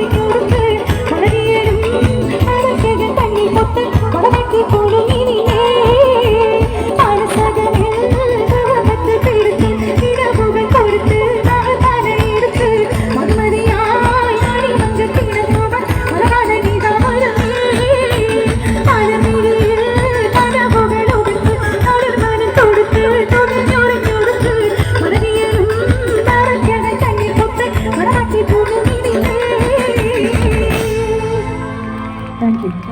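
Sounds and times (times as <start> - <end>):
fast drum beat: 0.0 - 31.6
person singing live: 0.0 - 32.9.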